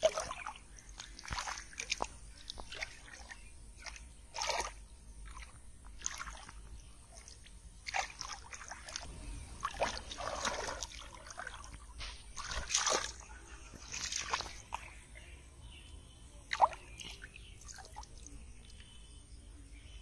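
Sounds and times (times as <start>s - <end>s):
muddy water splashing: 0.0s - 19.1s.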